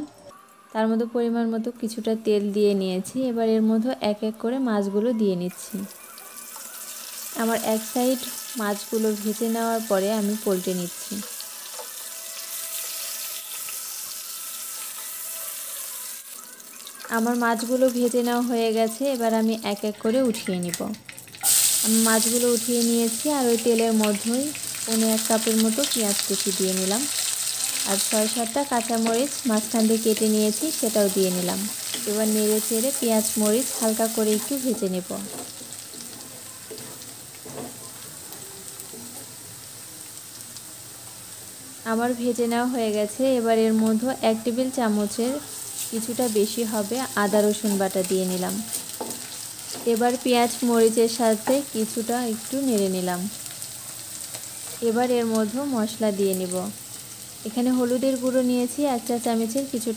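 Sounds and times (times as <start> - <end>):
fish sizzling in hot oil: 5.6 - 59.9.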